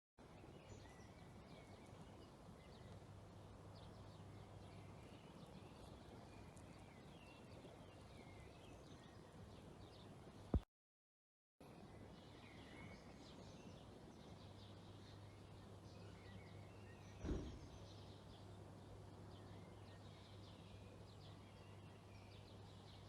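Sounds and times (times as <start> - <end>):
faint birds chirping: 0.2 - 10.6, 11.6 - 23.0.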